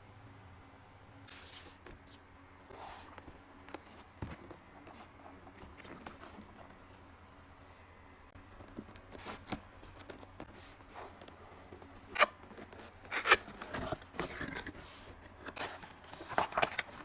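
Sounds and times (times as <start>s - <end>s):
packaging rustling and scraping: 1.3s - 17.0s.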